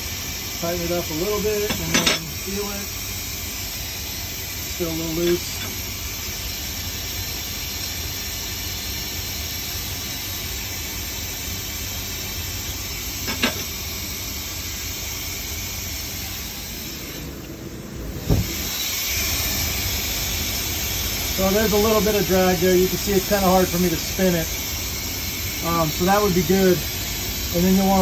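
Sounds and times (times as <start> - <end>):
air hissing from lathe: 0.0 - 17.4, 18.2 - 28.0.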